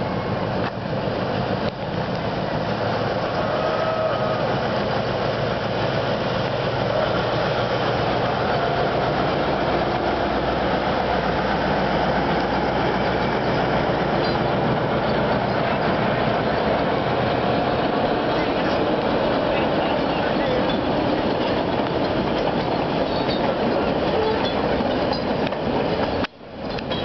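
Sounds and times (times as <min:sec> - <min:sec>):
carriages rumbling on a bridge: 0:00.0 - 0:27.0
diesel locomotive engine running: 0:00.0 - 0:27.0.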